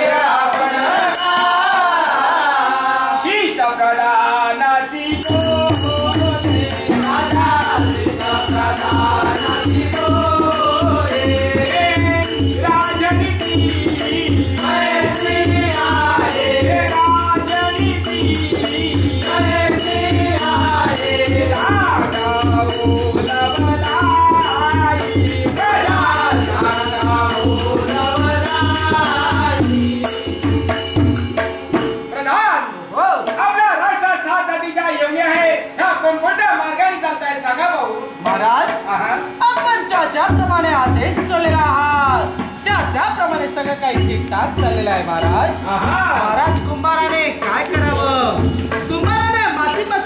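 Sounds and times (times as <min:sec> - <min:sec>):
tabla rhythm: 0:00.0 - 0:03.6, 0:05.1 - 0:32.5, 0:33.1 - 0:50.0
high jingling percussion: 0:00.1 - 0:02.3, 0:05.1 - 0:32.2, 0:38.2 - 0:50.0.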